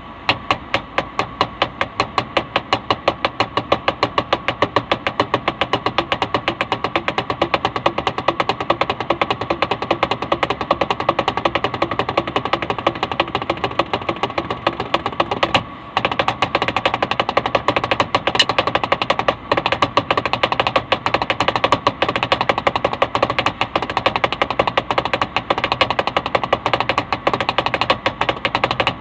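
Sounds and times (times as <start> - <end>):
rapid drumming: 0.4 - 29.0.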